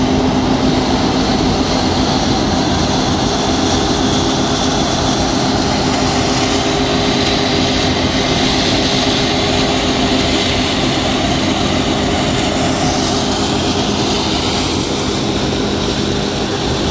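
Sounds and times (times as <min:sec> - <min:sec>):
combine harvester running: 0:00.0 - 0:16.9.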